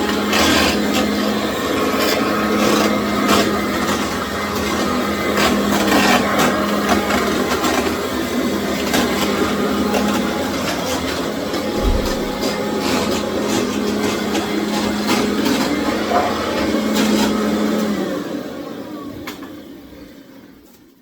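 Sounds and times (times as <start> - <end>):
vacuum cleaner running: 0.0 - 20.6.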